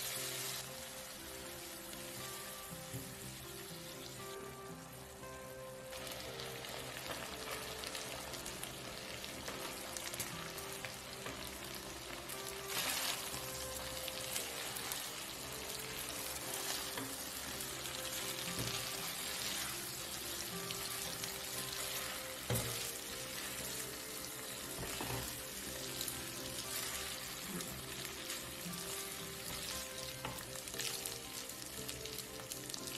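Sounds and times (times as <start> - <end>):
shrimp sizzling in frying pan: 0.0 - 32.9.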